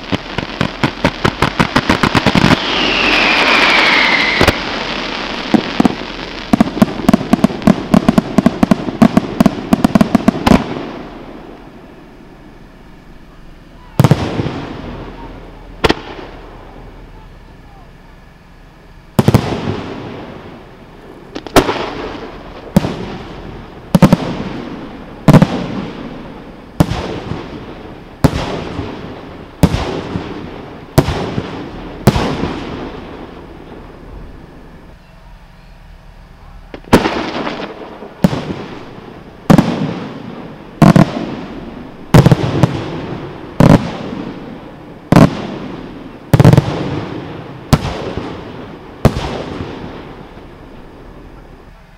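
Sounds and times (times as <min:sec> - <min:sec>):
firework shells bursting: 0:00.0 - 0:35.1, 0:35.8 - 0:51.7.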